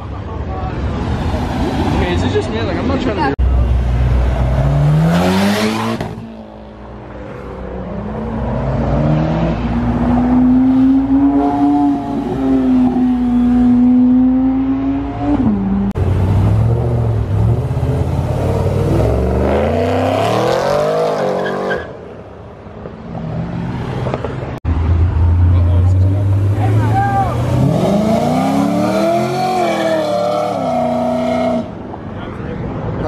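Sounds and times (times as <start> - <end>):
car engines accelerating hard: 0.6 - 21.7, 23.6 - 33.0.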